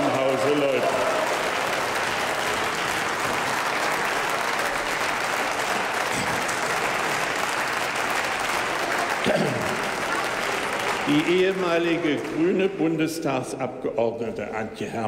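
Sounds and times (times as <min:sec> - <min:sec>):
applause: 0:00.0 - 0:14.2.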